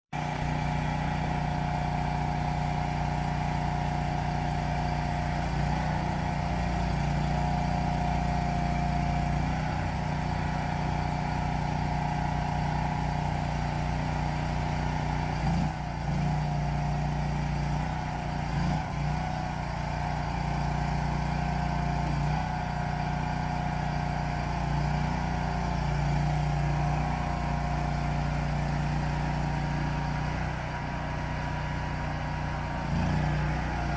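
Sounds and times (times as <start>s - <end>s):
loader engine running: 0.2s - 33.9s.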